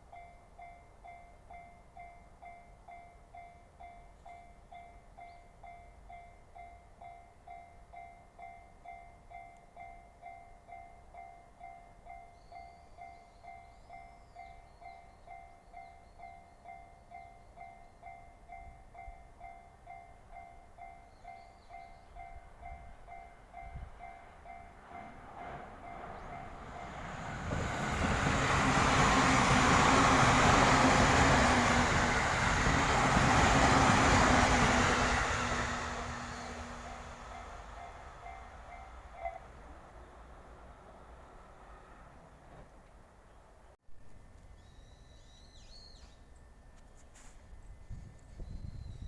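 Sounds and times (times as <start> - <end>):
train rumble and rail noise: 0.0 - 43.7.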